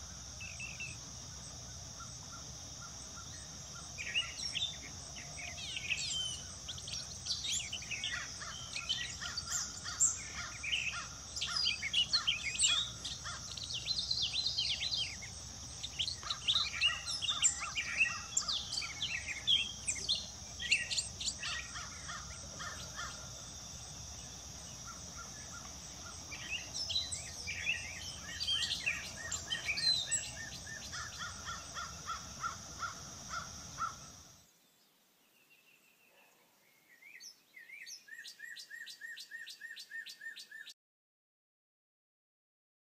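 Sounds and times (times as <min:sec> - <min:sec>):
birds calling and singing: 0:00.0 - 0:34.3, 0:35.3 - 0:40.7
high insect buzz: 0:00.0 - 0:34.5.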